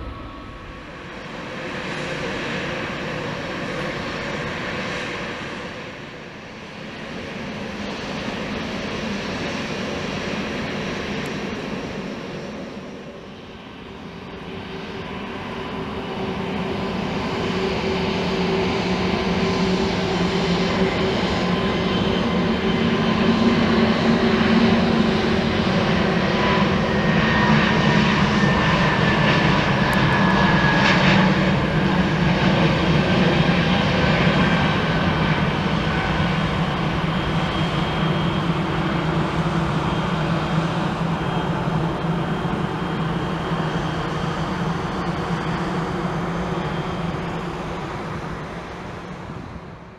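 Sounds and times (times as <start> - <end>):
jet engines at takeoff: 0.0 - 49.9.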